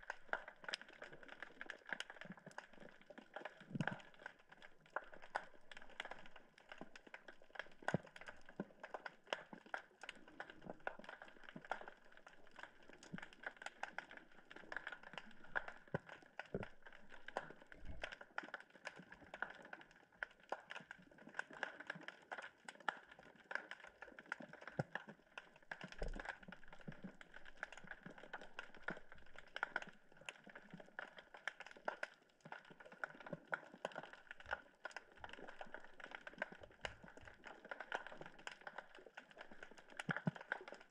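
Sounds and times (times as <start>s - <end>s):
underwater crackling clicks: 0.0s - 40.9s.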